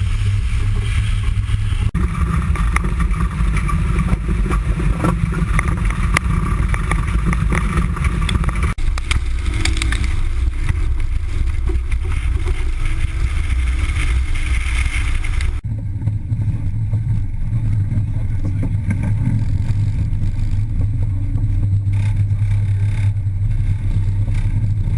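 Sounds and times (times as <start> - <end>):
car engine running hard: 0.0 - 24.9.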